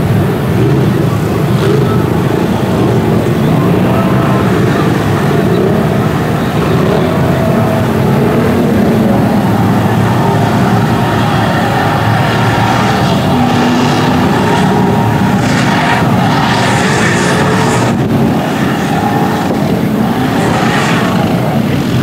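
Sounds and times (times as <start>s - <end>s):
truck engine running hard: 0.0s - 22.0s
truck plowing through water: 0.0s - 22.0s.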